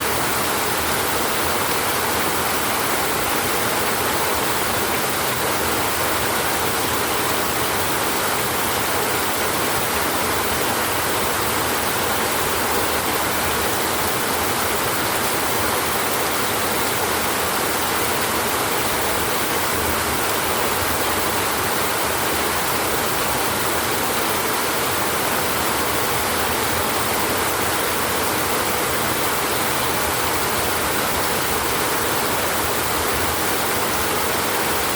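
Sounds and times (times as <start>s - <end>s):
rain on a tin roof: 0.0s - 34.9s.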